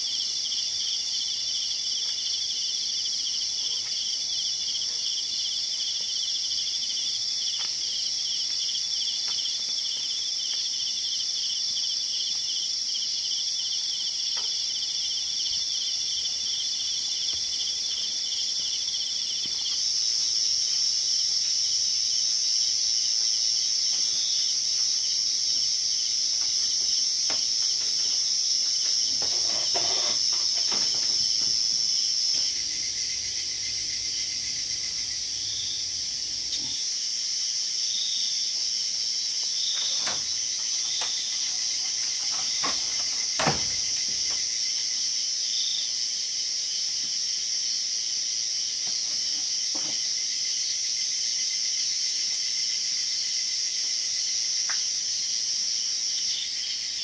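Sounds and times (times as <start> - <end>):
fast pulsing insect trill: 0.0 - 57.0
higher insect chirring: 0.0 - 57.0
insects chirring: 0.0 - 57.0.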